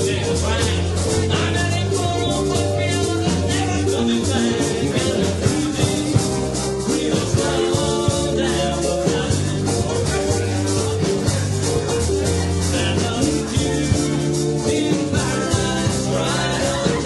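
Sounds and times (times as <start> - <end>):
live band playing upbeat song: 0.0 - 17.0
person singing: 0.0 - 17.0
steady drum beat: 0.0 - 17.0.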